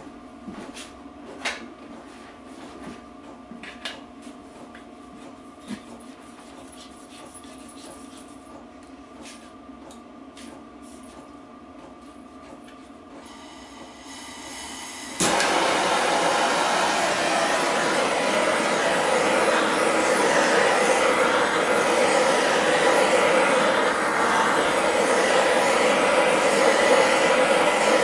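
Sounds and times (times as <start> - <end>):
workshop hum: 0.0 - 28.0.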